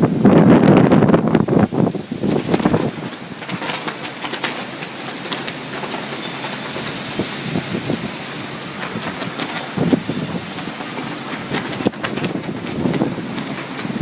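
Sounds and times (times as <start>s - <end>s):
strong wind gusts on microphone: 0.0s - 14.0s.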